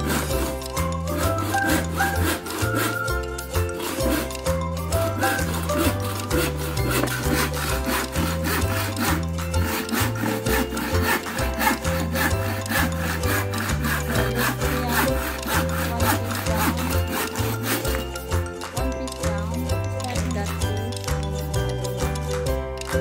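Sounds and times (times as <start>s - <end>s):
background music with bass: 0.0s - 23.0s
handsaw cutting wood: 0.0s - 23.0s.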